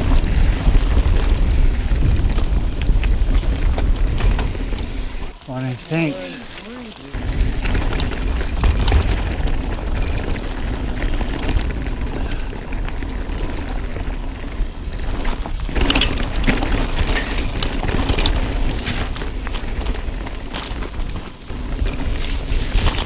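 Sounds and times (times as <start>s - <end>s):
bike rattling over rocky trail: 0.0s - 23.0s
wind buffeting microphone: 0.0s - 23.0s.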